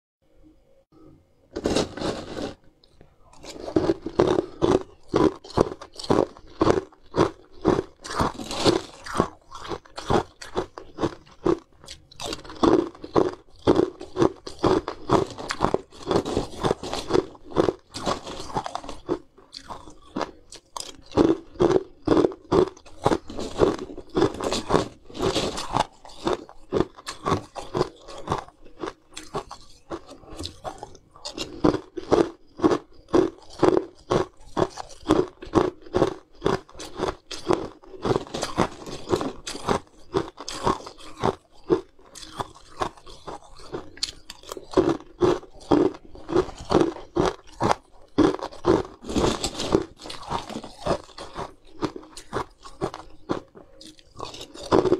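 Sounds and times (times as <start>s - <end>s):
ice cubes being crunched: 1.6s - 2.6s, 3.3s - 54.9s.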